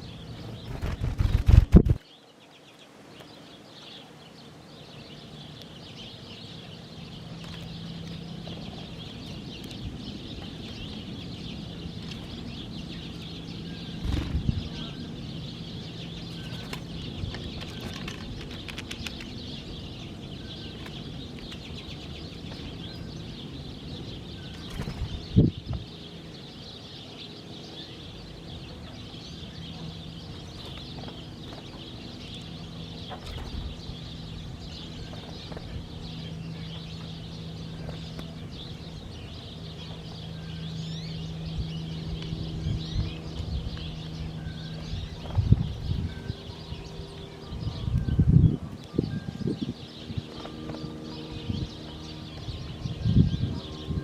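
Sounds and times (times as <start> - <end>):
low steady hum: 0.0 - 54.0
small birds chirping: 0.0 - 54.0.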